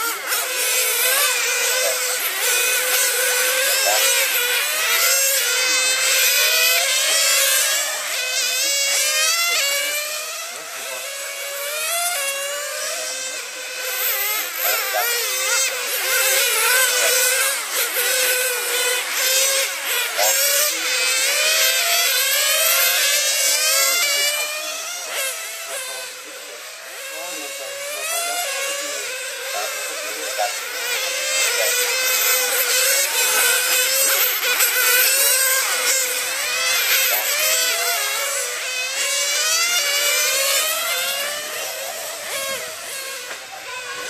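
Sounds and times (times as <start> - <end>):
small race car engines screaming: 0.0 - 44.0.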